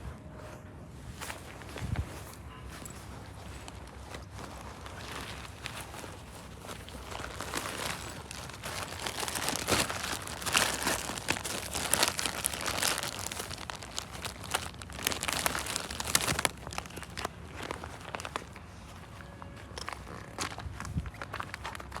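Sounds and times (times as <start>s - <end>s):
crinkling crackling rustle: 0.0s - 22.0s.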